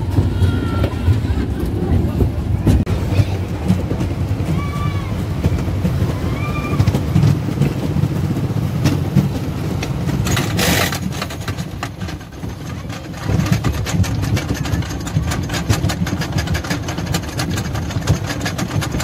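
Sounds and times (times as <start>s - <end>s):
roller coaster rumbling on wooden track: 0.0s - 19.0s.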